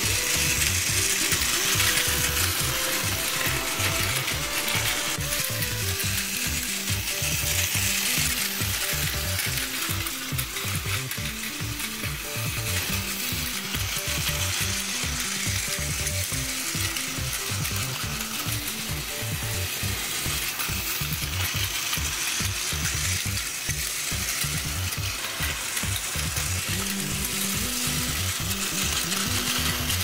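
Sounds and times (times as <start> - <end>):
background music: 0.0 - 30.0
toy train motor whirring: 0.0 - 30.0.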